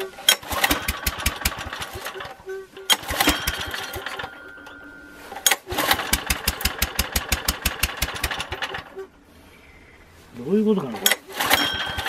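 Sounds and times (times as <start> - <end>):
small generator engine running: 0.0 - 9.2, 10.8 - 12.0.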